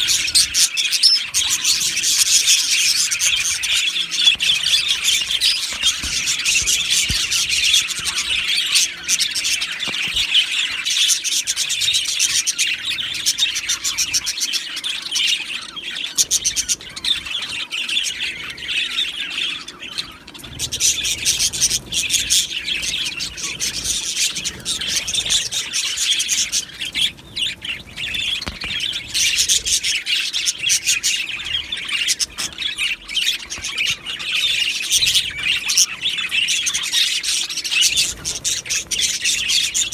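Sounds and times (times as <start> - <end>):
bird squawks: 0.0 - 39.9
budgerigars chirping: 0.0 - 39.9.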